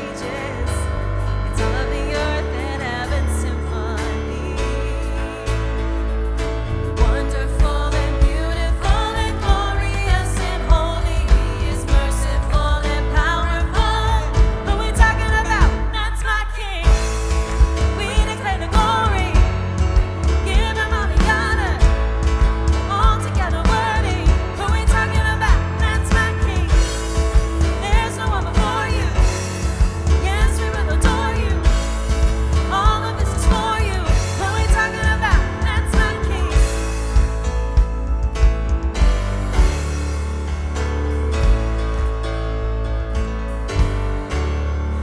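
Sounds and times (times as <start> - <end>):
person singing: 0.0 - 37.4
worship band playing: 0.0 - 45.0.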